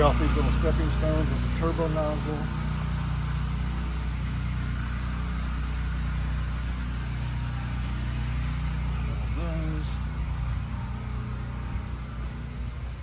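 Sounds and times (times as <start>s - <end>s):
pressure washer engine hum: 0.0s - 13.0s.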